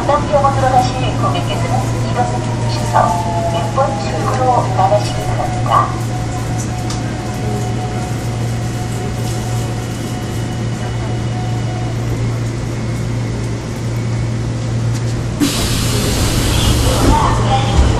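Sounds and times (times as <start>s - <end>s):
train car hum and fan noise: 0.0s - 17.9s.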